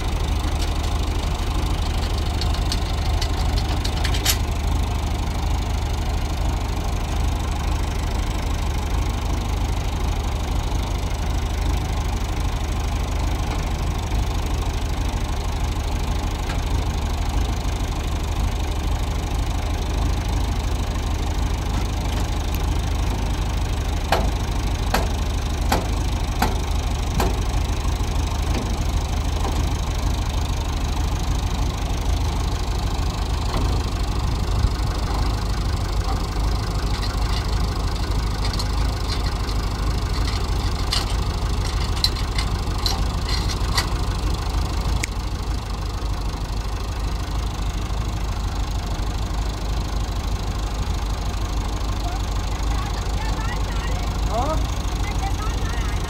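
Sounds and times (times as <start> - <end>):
engine drone: 0.0 - 56.0.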